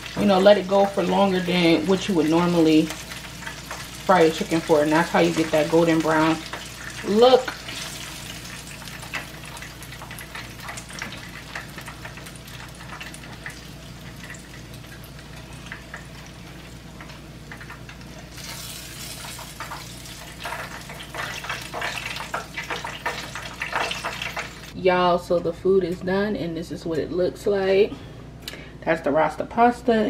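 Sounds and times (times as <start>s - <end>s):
chicken frying in hot oil: 0.0s - 24.8s.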